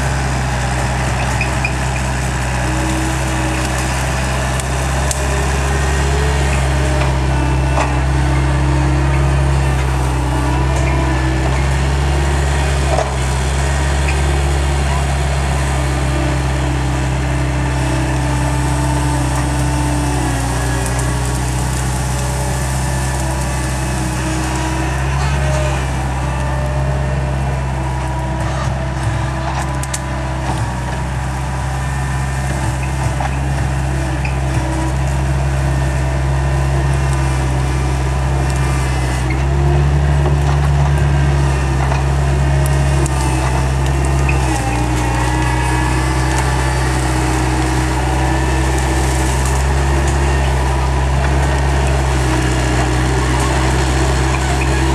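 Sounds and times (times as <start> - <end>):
skid steer engine running: 0.0 - 54.9
branches snapping and crackling: 0.1 - 54.9.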